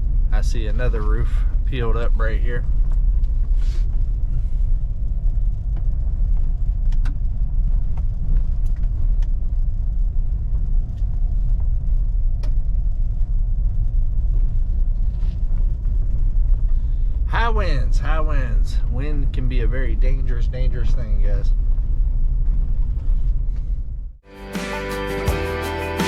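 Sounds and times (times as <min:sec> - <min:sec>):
truck engine and road rumble: 0:00.0 - 0:24.3.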